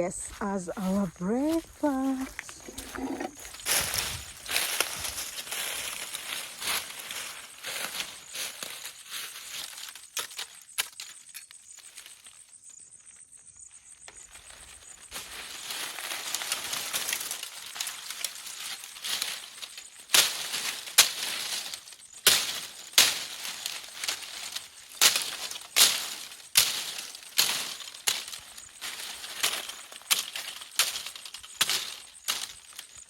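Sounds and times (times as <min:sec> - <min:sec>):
sticks and brush rustling: 0:00.0 - 0:12.4, 0:14.1 - 0:33.0
dry wood cracking: 0:01.6 - 0:11.4, 0:14.1 - 0:33.0.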